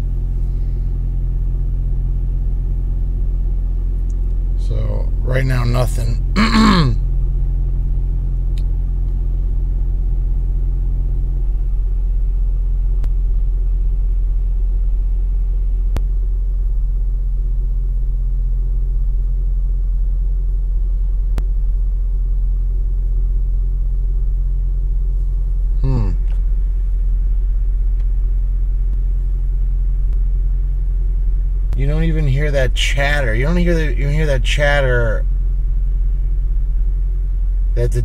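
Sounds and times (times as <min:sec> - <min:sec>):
car engine low rumble: 0:00.0 - 0:38.0.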